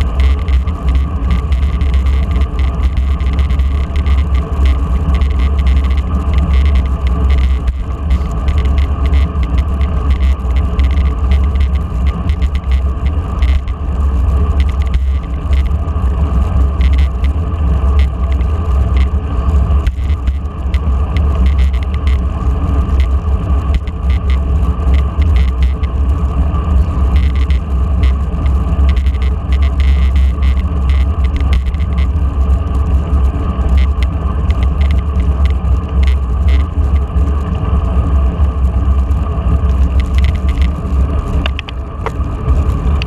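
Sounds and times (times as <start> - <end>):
small clicks and rattles: 0.0 - 37.8, 38.4 - 43.0
tyre road noise: 0.0 - 43.0
wind rumble on microphone: 0.0 - 43.0.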